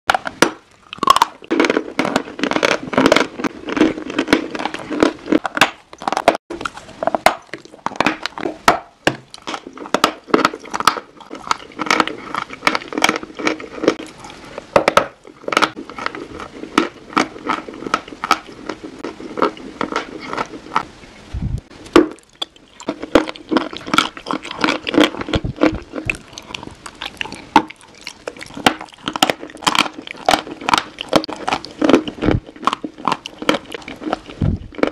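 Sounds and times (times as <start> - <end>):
crunchy chewing: 0.1 - 8.7, 9.3 - 21.2, 21.9 - 34.9.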